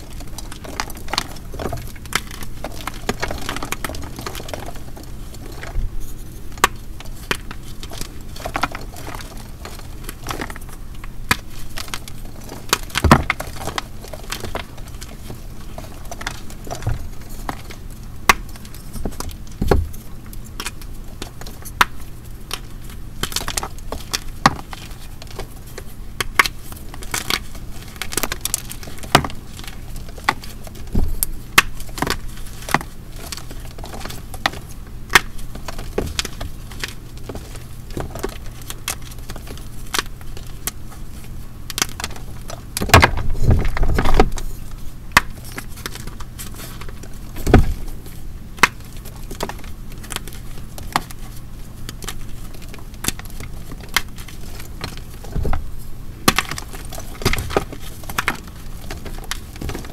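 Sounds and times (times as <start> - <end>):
chalk crumbling and cracking: 0.0 - 59.9.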